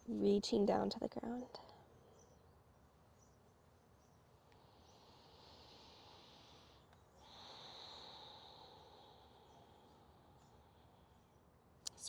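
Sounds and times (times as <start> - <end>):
soft high steady hiss: 0.0 - 12.0.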